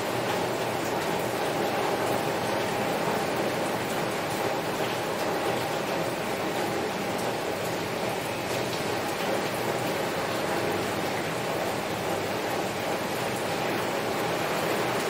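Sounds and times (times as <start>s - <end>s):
heavy rain on a window: 0.0s - 15.0s.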